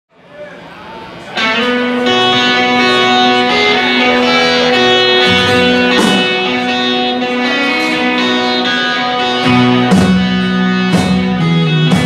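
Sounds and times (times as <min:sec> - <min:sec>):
live rock band playing: 0:01.1 - 0:12.0
ringing guitar notes: 0:01.3 - 0:12.0.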